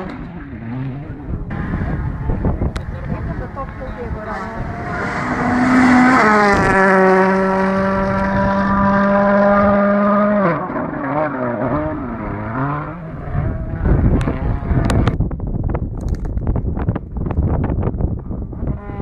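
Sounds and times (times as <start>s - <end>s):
rally car engine passing by: 0.0s - 15.2s, 18.6s - 19.0s.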